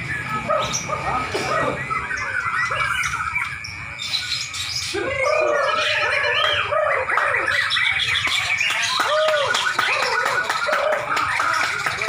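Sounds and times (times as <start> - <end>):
shamas singing whistles and chirps: 0.0 - 12.0.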